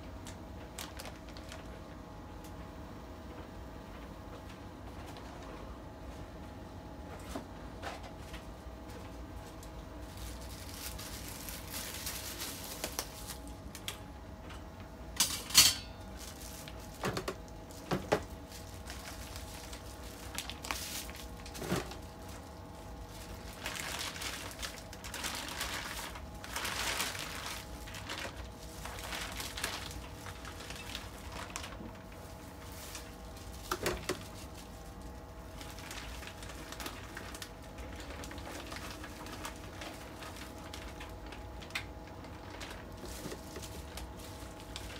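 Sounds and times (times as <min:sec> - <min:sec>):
plastic bags rustling and crinkling: 0:00.0 - 0:02.0, 0:03.9 - 0:06.4, 0:07.1 - 0:44.9.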